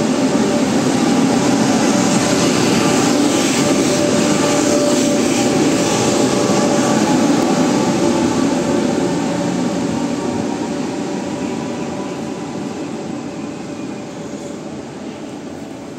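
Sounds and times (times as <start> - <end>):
electric train passing: 0.0 - 15.9.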